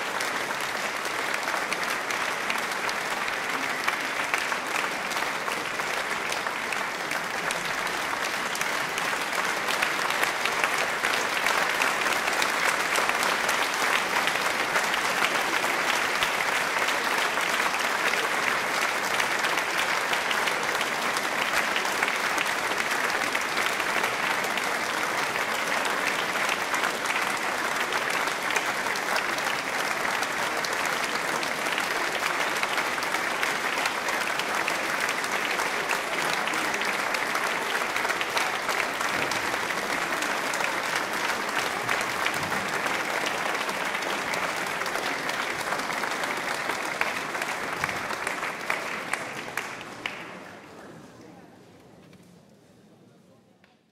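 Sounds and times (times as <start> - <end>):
audience applauding: 0.0 - 50.8.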